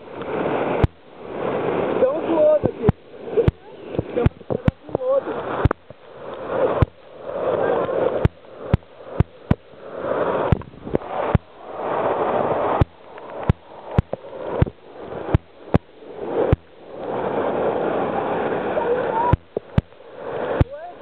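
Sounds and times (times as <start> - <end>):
waterfall rushing and splashing: 0.0 - 21.0.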